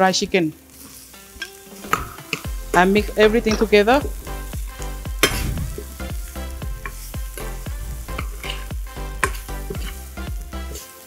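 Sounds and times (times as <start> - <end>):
food sizzling: 0.0 - 11.0
metal spoon scraping pan: 0.8 - 10.8.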